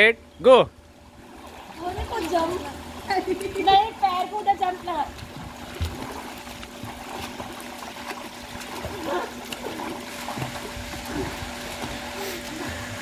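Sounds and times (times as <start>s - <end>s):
water splashing and churning: 0.8s - 13.0s.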